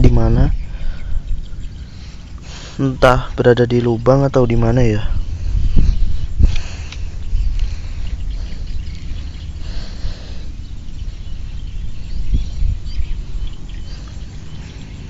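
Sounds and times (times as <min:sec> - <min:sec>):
faint bird chirps: 0:00.0 - 0:15.0
wind rumble on microphone: 0:00.0 - 0:15.0.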